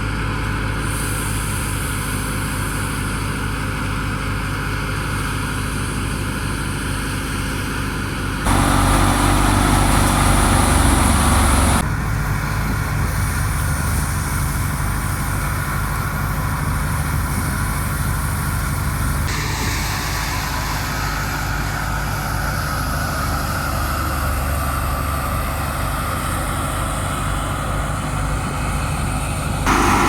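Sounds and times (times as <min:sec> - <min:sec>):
wheat thresher running: 0:00.8 - 0:30.0.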